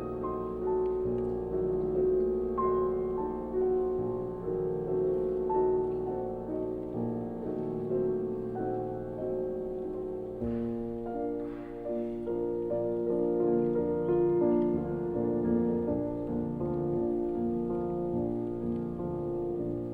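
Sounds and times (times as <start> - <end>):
slow soft piano music: 0.0 - 19.9.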